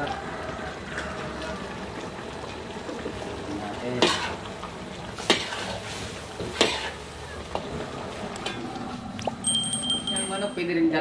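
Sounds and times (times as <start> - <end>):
food bubbling and sizzling: 0.0 - 10.4.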